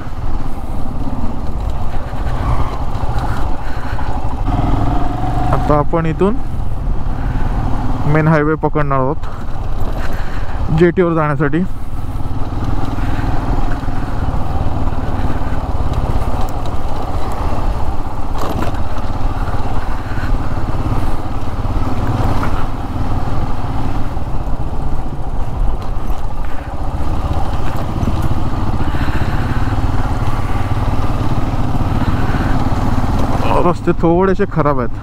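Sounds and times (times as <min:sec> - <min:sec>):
motorcycle engine and road noise: 0:00.0 - 0:35.0.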